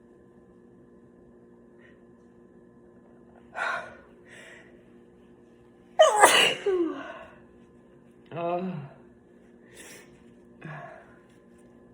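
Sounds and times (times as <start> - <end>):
low room hum: 0.0 - 11.9.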